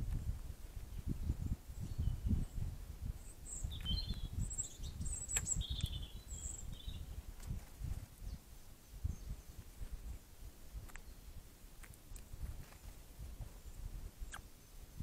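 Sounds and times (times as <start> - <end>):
small birds chirping: 0.0 - 10.1, 10.7 - 15.0.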